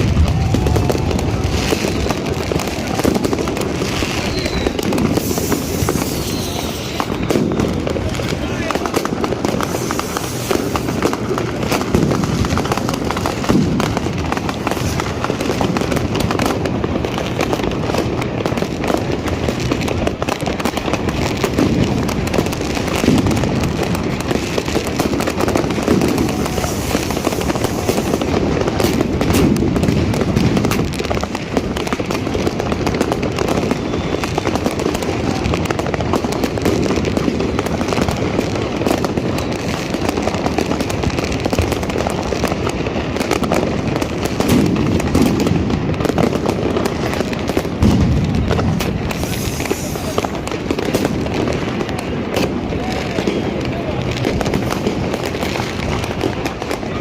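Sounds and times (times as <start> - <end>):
fireworks and firecrackers banging: 0.0 - 57.0.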